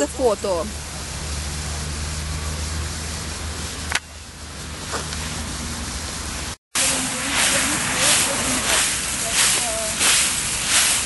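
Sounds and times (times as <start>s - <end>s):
muffled rumble and hiss: 0.0s - 11.0s.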